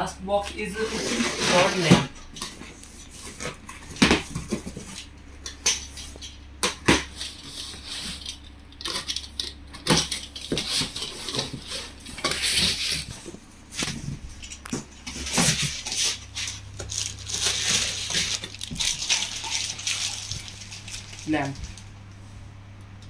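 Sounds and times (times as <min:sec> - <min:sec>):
cardboard and tape rustling: 0:00.4 - 0:22.0.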